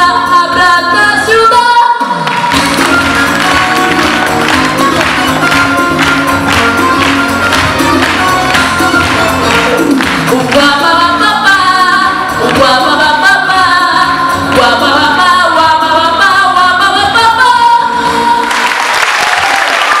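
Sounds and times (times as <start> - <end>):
backing music: 0.0 - 19.0.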